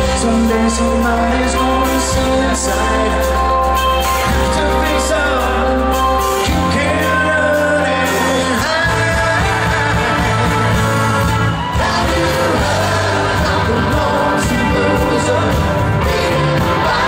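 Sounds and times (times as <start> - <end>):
acoustic and electric guitars: 0.0 - 17.0
bass guitar: 0.0 - 17.0
drums: 0.0 - 17.0
person singing: 0.0 - 17.0.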